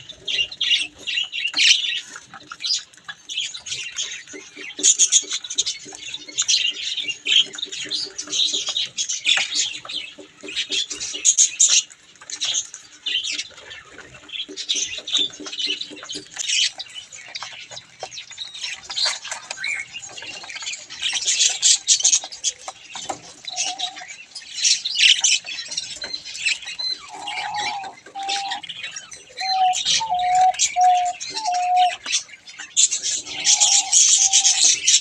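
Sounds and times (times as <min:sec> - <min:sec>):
budgerigars chattering: 0:00.0 - 0:35.0.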